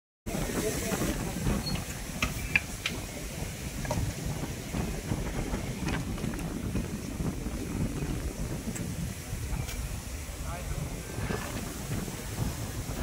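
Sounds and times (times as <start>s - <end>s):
wind buffeting microphone: 0.3s - 13.0s.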